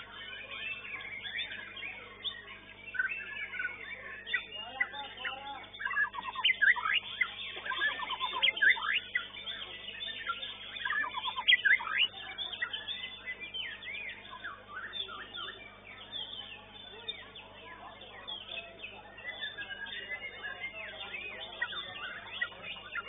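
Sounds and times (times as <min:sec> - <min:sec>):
birds singing whistles and trills: 0:00.0 - 0:23.0.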